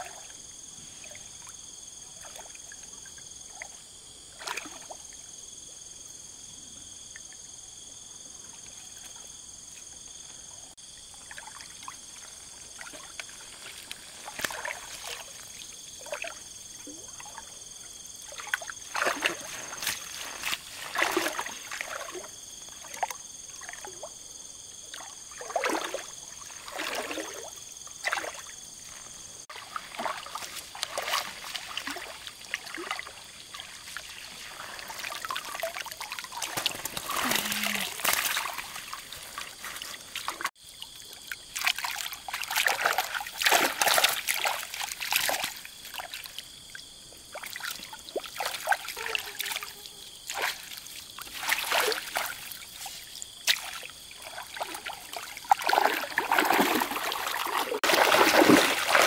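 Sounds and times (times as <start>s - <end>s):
water splashing and trickling: 0.0s - 5.4s, 8.2s - 59.0s.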